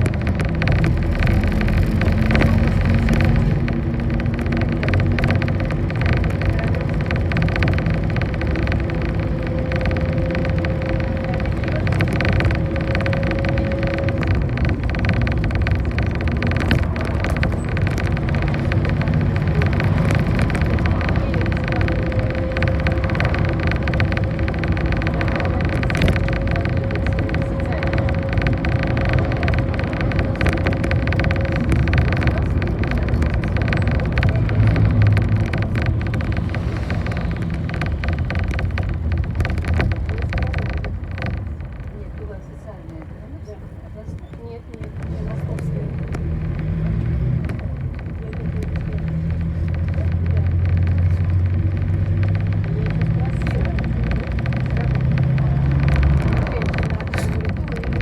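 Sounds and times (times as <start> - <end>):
bus engine and road noise: 0.0 - 58.0
small rattles: 0.0 - 58.0.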